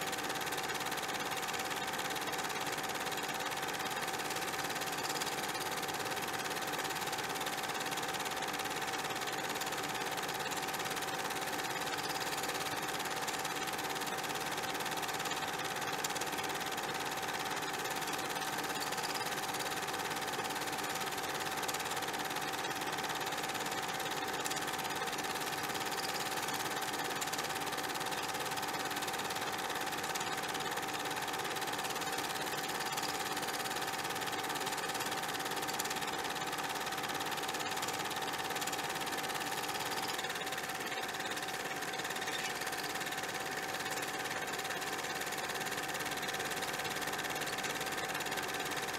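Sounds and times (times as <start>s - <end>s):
small machine whirring: 0.0s - 48.9s.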